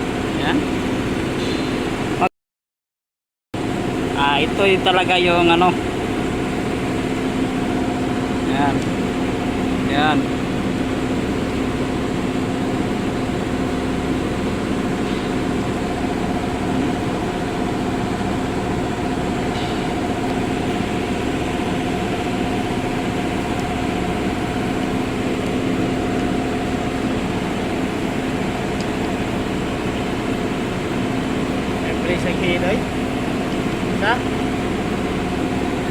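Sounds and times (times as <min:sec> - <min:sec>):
car engine idling with knocking: 0:03.7 - 0:35.9.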